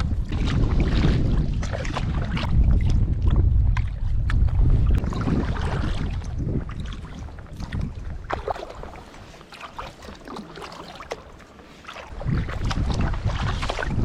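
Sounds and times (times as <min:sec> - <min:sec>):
wind buffeting microphone: 0:00.0 - 0:09.3, 0:12.0 - 0:14.0
water splashing around kayak: 0:00.0 - 0:14.0.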